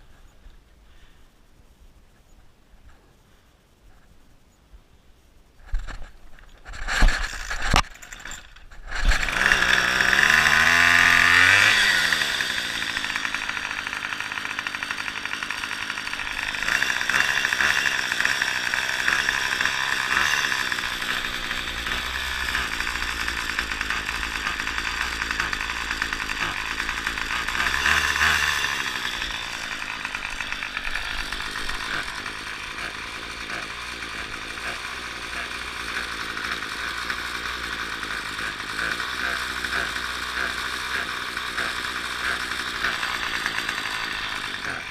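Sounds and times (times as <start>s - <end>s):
string trimmer engine revving: 6.6s - 44.9s.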